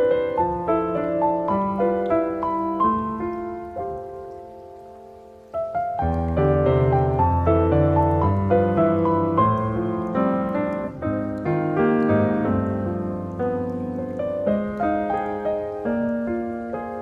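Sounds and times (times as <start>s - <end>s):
calm piano music: 0.0s - 17.0s.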